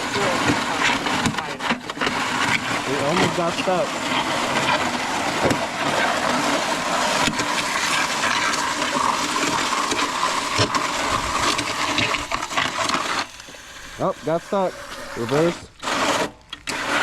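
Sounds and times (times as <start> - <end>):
concrete mixer churning: 0.0 - 17.0
stones knocking in auger: 0.0 - 17.0.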